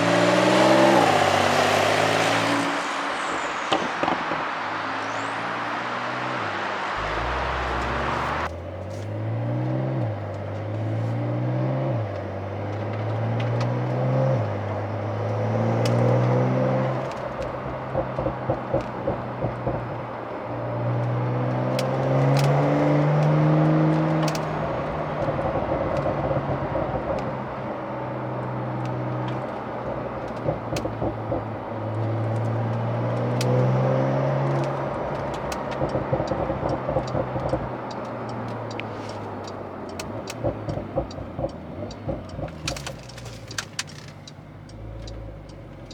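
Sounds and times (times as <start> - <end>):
sports car engine accelerating: 0.0 - 45.9
exhaust pops and crackles: 2.8 - 45.9.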